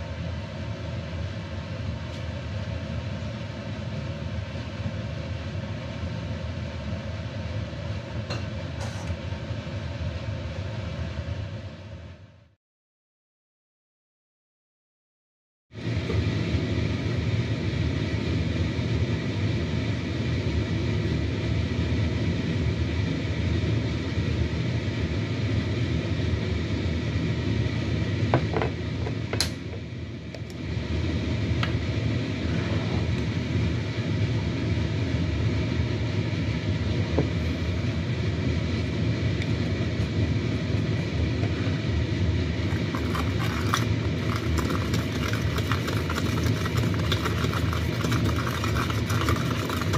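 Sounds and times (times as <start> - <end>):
fan or motor humming: 0.0 - 12.6, 15.7 - 49.9.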